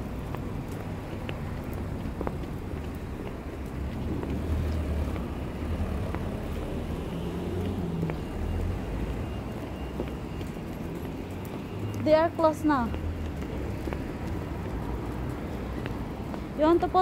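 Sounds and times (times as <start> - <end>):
cars passing on street: 0.0 - 17.0.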